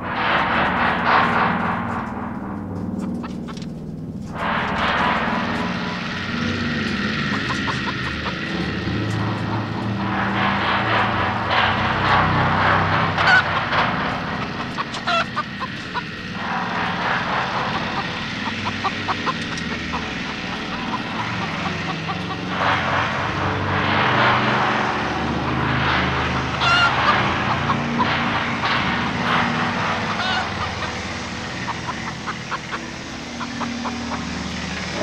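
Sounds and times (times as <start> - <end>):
droning horror score: 0.0 - 35.0
chicken clucking and squawking: 5.1 - 10.1, 10.7 - 23.8, 24.4 - 35.0.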